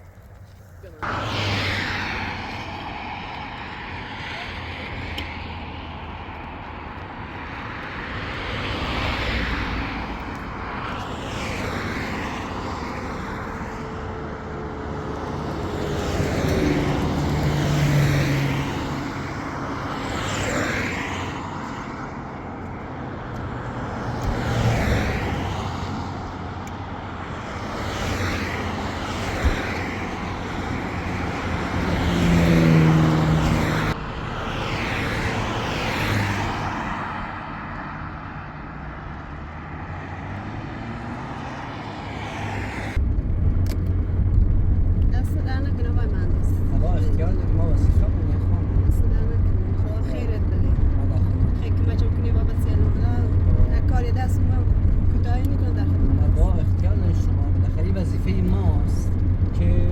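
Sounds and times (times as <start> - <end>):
road traffic hum: 0.0 - 59.9
vehicles passing: 0.0 - 59.9.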